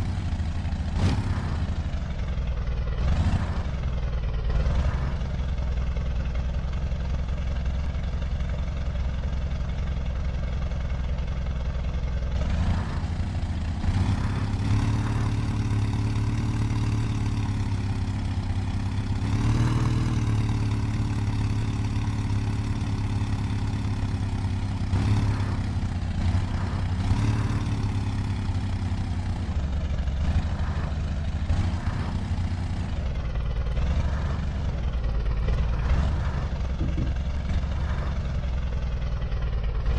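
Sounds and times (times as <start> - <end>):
engine running and revving: 0.0 - 39.9.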